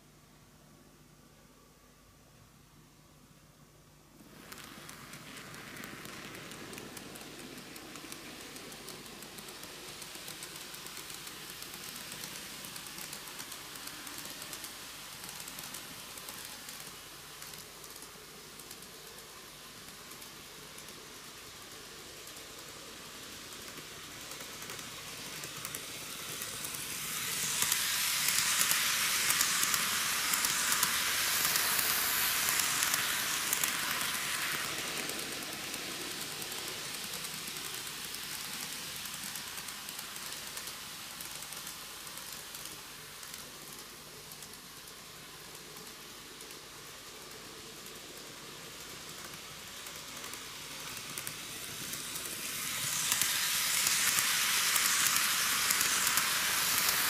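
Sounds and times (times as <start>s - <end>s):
model train running on track: 4.2s - 57.0s.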